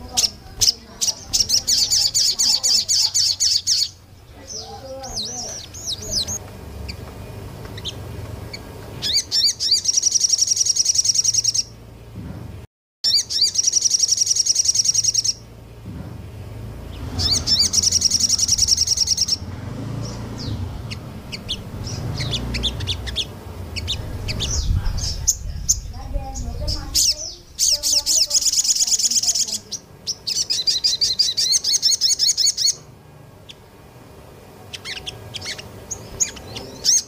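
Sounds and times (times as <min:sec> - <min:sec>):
bird chirps: 0:00.0 - 0:11.8, 0:13.0 - 0:15.5, 0:16.8 - 0:33.7, 0:34.7 - 0:37.0
songbird singing rapid high notes: 0:00.0 - 0:11.8, 0:13.1 - 0:15.5, 0:16.8 - 0:32.8, 0:34.6 - 0:37.0.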